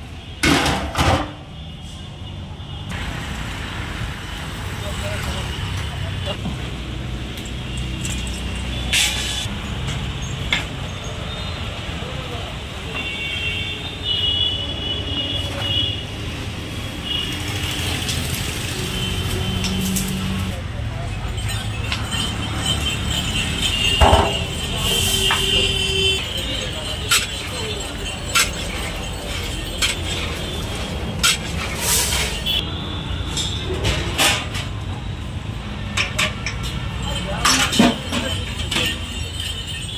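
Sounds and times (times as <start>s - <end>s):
rumble of passing vehicles: 0.0s - 39.9s.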